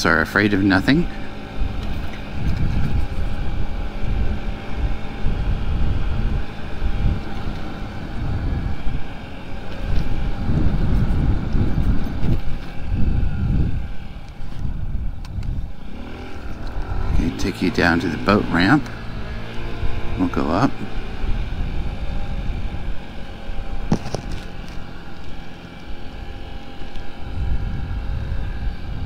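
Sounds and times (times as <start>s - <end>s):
scooter engine running: 0.0s - 29.0s
wind buffeting microphone: 0.4s - 29.0s.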